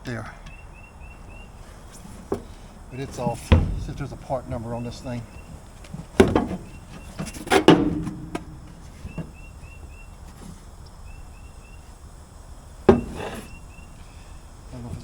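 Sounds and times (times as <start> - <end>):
airbag knocking and rattling: 0.5 - 10.9, 12.2 - 15.0.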